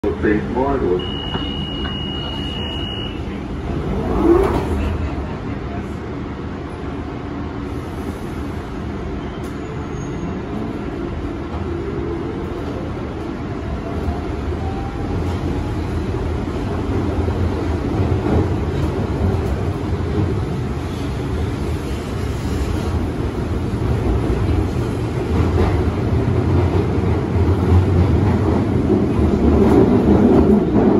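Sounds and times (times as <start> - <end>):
train rumbling and rattling on track: 0.0 - 30.9.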